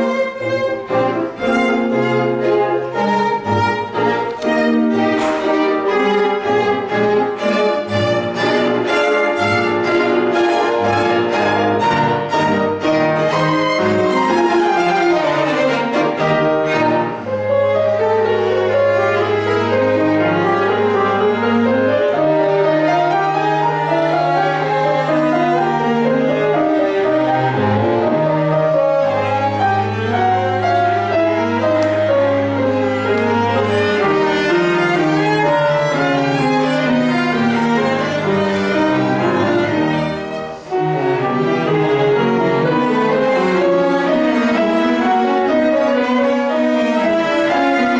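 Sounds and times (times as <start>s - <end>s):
cello holding long low notes: 0.0s - 47.9s
piano: 0.0s - 47.9s
viola: 0.0s - 47.9s
violin: 0.0s - 47.9s.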